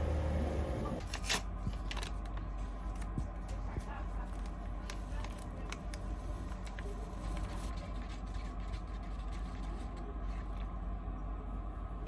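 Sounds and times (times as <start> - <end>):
train interior low hum: 0.0 - 8.7, 9.3 - 12.0.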